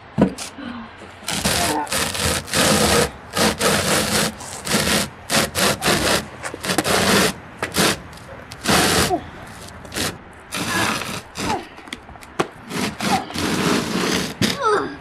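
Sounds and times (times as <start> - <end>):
cardboard box scraping on asphalt: 1.2 - 14.8.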